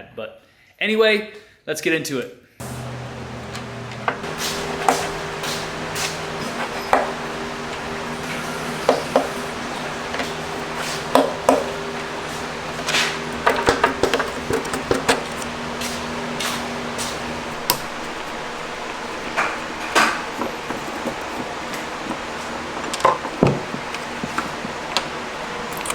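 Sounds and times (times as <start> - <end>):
low machine hum: 2.6 - 25.8.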